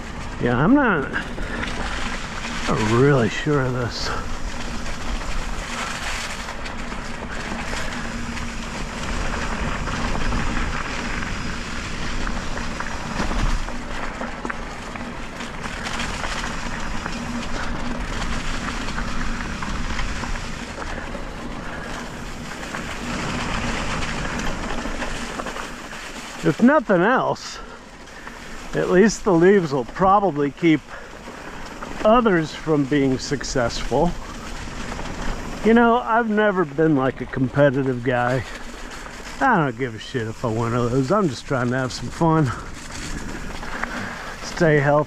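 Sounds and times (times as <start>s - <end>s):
bike tyres rolling over dirt and leaves: 0.0s - 45.0s.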